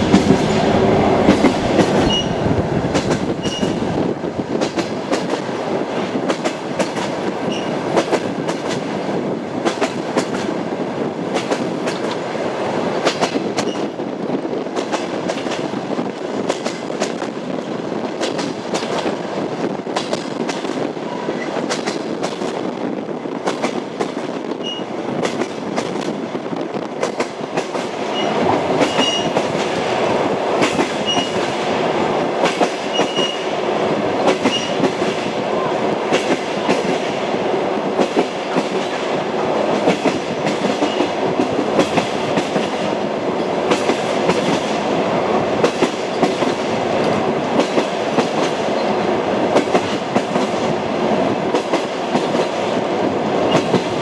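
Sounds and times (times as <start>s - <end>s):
train wheels clicking on rail joints: 0.0s - 54.0s.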